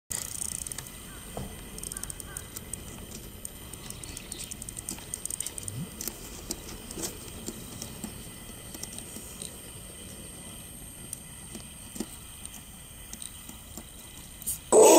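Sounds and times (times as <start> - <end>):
small clicks and taps: 0.4 - 9.5, 11.0 - 14.2.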